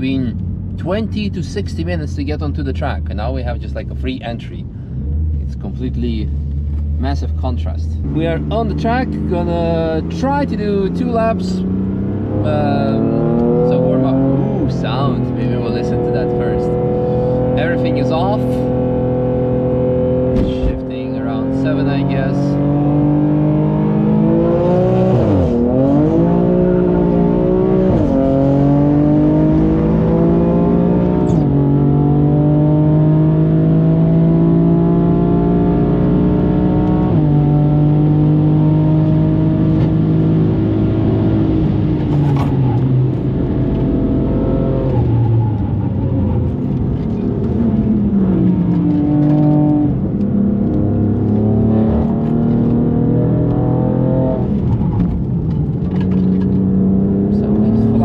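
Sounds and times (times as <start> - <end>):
car engine accelerating through gears: 8.0 - 58.0.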